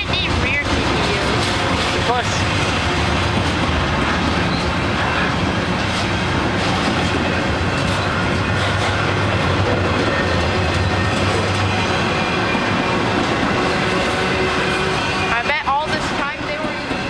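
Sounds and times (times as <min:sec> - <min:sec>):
train wheels rolling on rails: 0:00.0 - 0:17.0.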